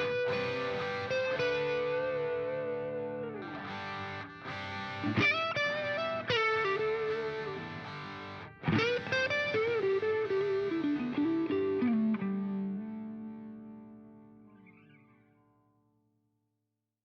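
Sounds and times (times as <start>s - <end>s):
distorted electric guitar melody: 0.0s - 15.6s.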